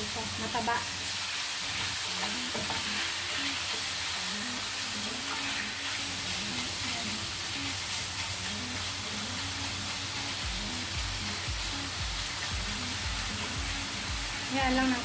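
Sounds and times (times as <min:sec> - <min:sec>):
pork sizzling in hot oil: 0:00.0 - 0:15.0.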